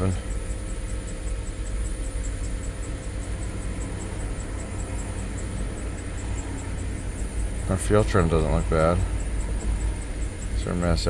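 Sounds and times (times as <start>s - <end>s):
engine idling rough with misfire: 0.0s - 11.0s.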